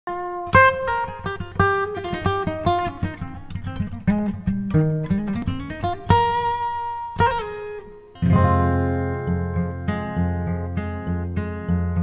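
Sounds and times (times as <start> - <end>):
acoustic guitar music: 0.1 - 12.0.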